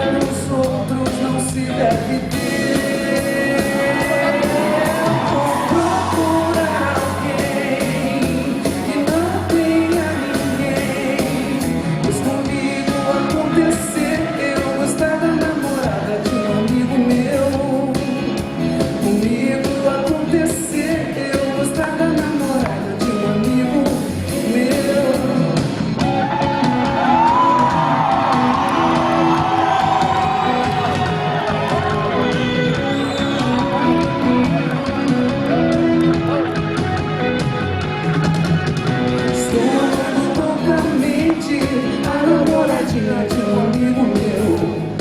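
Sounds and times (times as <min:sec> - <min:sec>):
person singing: 0:00.0 - 0:36.5, 0:39.2 - 0:45.0
live pop band music: 0:00.0 - 0:45.0.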